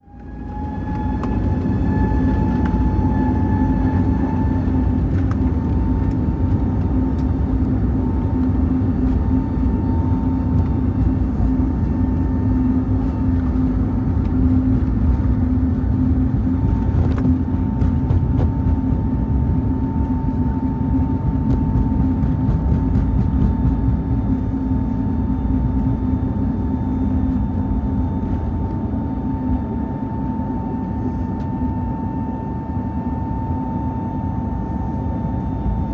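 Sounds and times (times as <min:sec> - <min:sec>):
airliner cabin rumble: 0:00.0 - 0:35.9
jet engine whining tones: 0:00.0 - 0:35.9.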